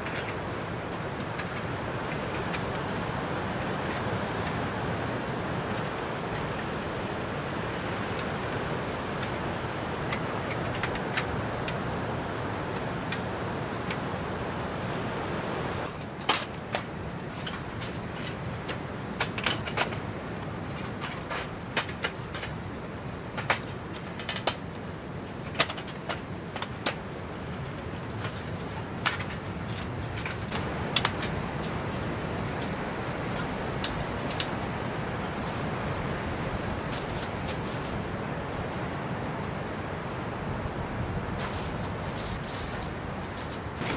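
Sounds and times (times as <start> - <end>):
wind: 0.0 - 43.9.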